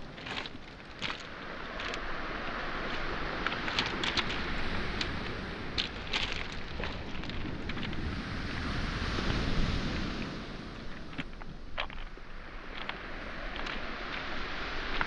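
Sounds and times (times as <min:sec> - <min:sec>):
footsteps on pebbles: 0:00.0 - 0:09.4, 0:10.8 - 0:15.0
waves on pebble shore: 0:00.0 - 0:15.0.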